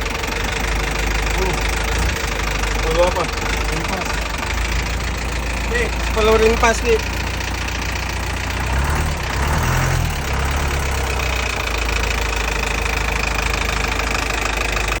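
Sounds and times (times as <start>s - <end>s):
engine revving and idling: 0.0s - 15.0s.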